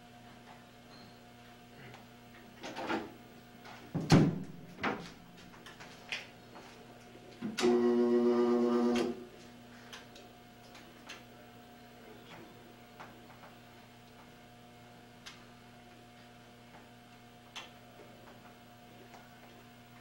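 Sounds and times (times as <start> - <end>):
electrical buzz with low hum: 0.0 - 20.0.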